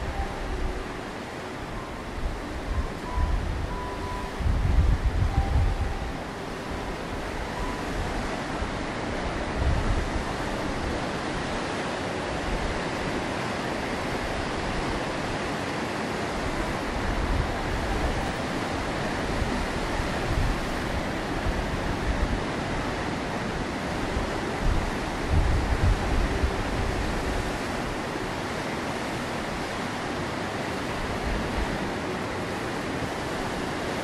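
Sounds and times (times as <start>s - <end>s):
waves breaking on rocky shore: 5.8s - 34.0s.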